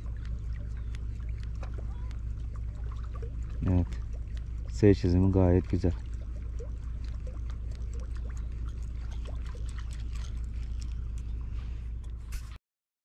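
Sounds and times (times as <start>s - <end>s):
steady low rumble: 0.0s - 12.6s
water sloshing and trickling: 0.0s - 12.6s.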